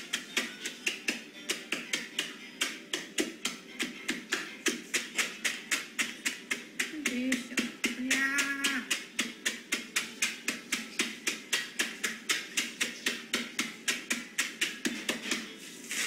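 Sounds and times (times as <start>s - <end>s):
spatula handle pounding food in bag: 0.0s - 15.6s.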